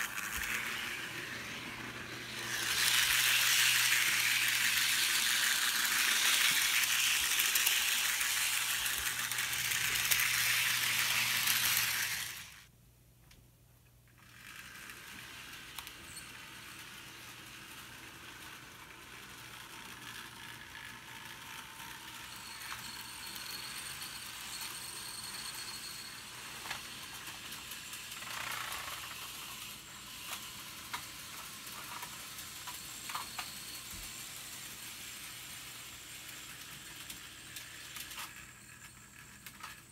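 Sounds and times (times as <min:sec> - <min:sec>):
model train motor whirring: 0:00.0 - 0:12.7, 0:14.1 - 0:39.9.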